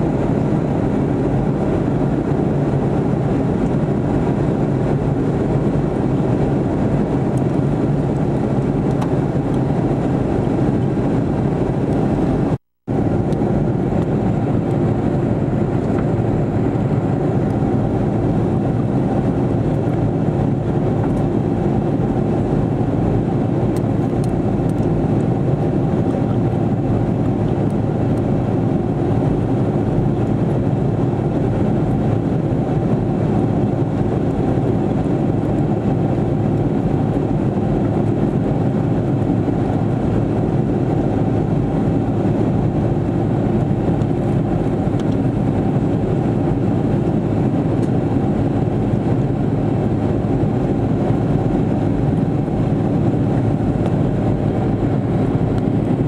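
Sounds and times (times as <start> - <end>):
jet engine drone in cabin: 0.0 - 56.0.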